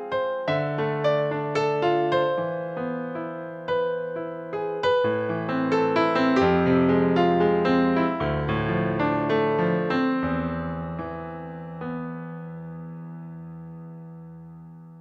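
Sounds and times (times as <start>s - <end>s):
slow jazz piano: 0.0s - 15.0s.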